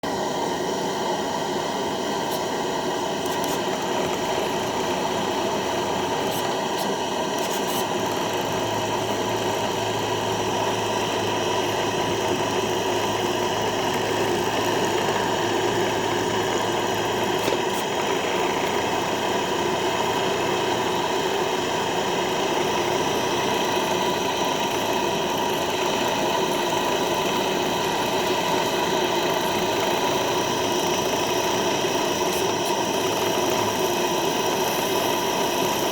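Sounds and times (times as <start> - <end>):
model steam engine running: 0.0 - 35.9.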